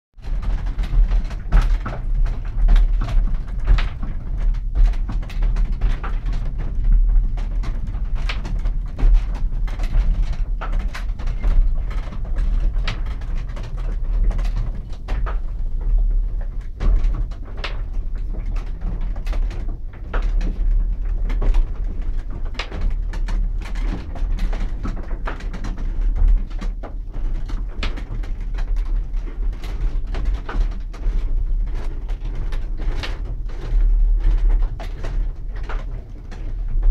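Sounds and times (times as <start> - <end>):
wooden gearing turning and meshing: 0.2 - 36.9.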